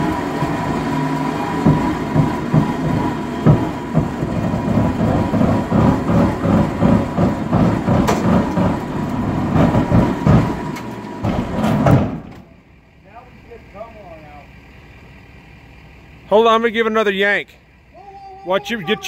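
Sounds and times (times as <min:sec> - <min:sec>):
winch rumbling: 0:00.0 - 0:19.0.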